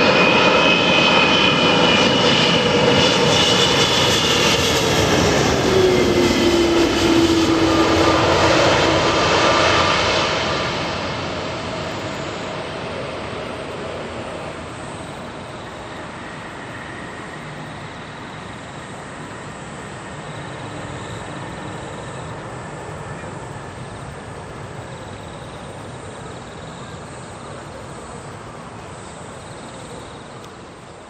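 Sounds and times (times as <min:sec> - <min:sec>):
faint high whine: 0:00.0 - 0:31.0
jet engines roaring: 0:00.0 - 0:31.0.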